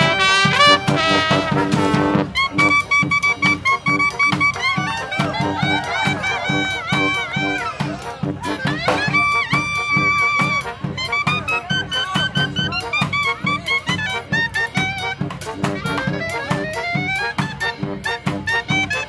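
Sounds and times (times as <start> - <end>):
clarinet: 0.0 - 19.0
drums keeping quick beat: 0.0 - 19.0
saxophones: 0.0 - 19.0
trombone: 0.0 - 19.0.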